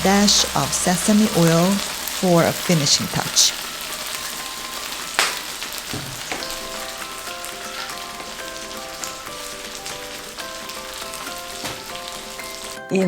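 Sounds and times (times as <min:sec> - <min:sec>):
stir-fry sizzling in a pan: 0:00.0 - 0:13.0.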